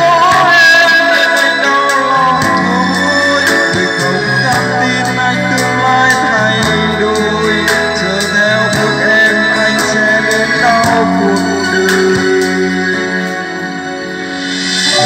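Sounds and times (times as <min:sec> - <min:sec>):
song through loudspeaker: 0:00.0 - 0:15.0.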